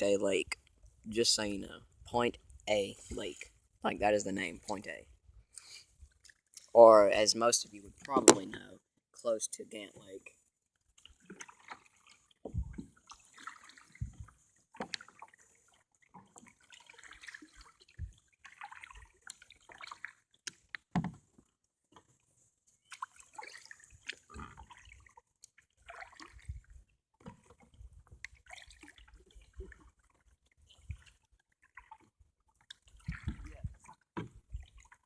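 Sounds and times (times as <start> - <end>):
water splashing around kayak: 0.0 - 8.8, 9.7 - 35.0.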